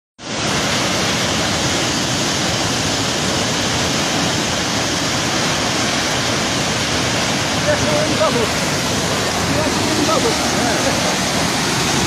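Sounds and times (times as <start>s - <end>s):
waterfall rushing: 0.2s - 12.0s.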